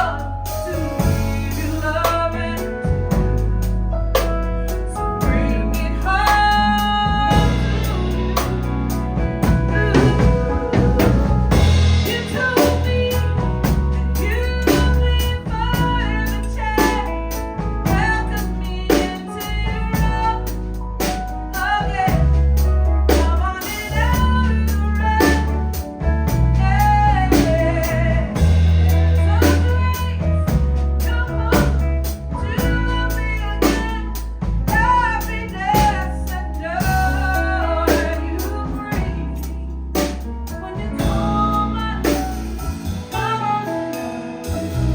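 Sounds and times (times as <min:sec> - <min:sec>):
woman singing lead: 0:00.0 - 0:03.4, 0:04.9 - 0:20.6, 0:21.6 - 0:22.4, 0:23.1 - 0:44.9
live band playing: 0:00.0 - 0:44.9.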